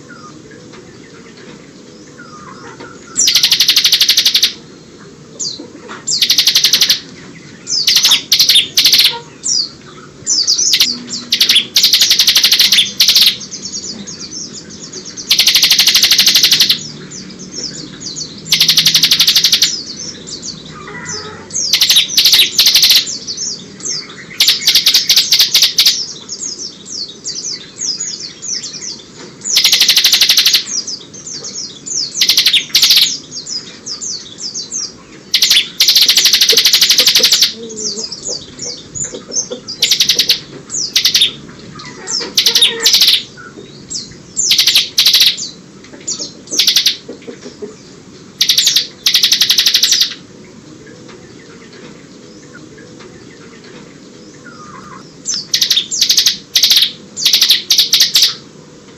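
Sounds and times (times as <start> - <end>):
prinia high trilling song: 0.0 - 58.9
bird chirps: 1.1 - 4.8, 5.4 - 58.4.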